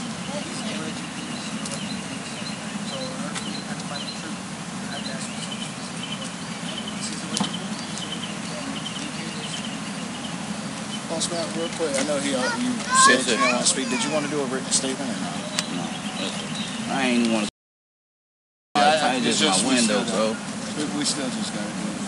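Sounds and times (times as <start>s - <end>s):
birds chirping: 0.0s - 17.5s, 18.8s - 22.0s.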